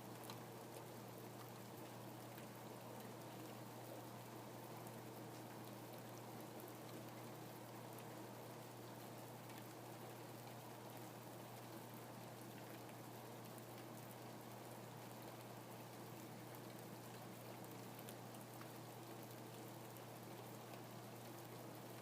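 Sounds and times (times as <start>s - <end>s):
faint ticks of raindrops: 0.0s - 22.0s
steady rain hiss: 0.0s - 22.0s.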